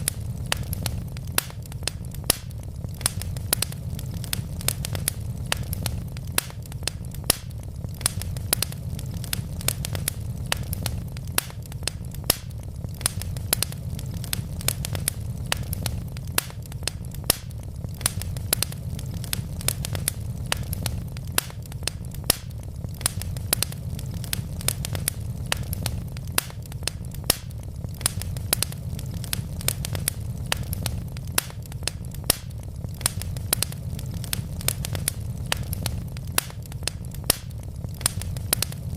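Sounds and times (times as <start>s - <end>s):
burning logs crackling and popping: 0.0s - 38.9s
fire low rumble: 0.0s - 38.9s.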